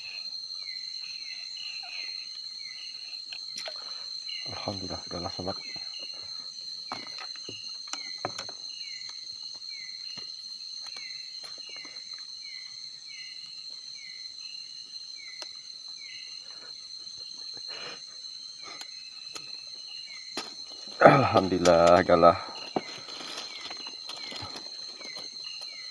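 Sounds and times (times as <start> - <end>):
insects trilling: 0.0 - 25.9.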